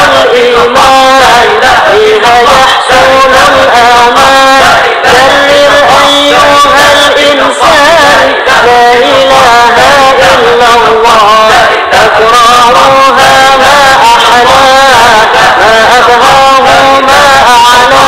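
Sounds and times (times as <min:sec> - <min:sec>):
man chanting devotional song: 0:00.0 - 0:18.0.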